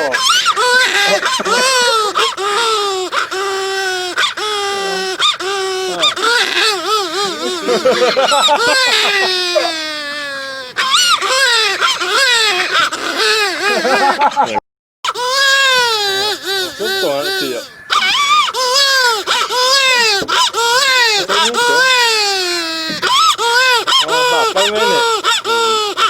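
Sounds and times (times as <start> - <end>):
person imitating baby crying: 0.0 - 14.4, 15.1 - 26.0.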